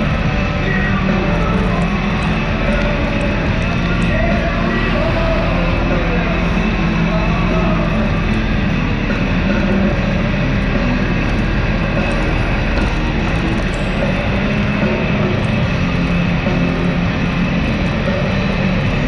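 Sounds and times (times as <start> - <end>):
road and wind noise: 0.0 - 19.0
utility vehicle engine drone: 0.0 - 19.0.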